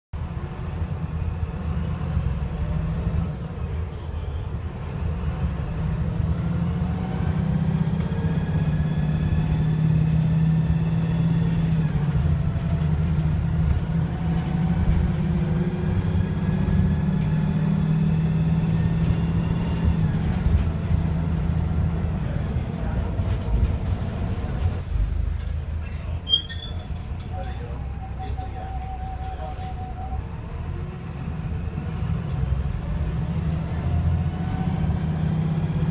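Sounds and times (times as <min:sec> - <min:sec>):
misfiring bus engine accelerating: 0:00.2 - 0:35.9.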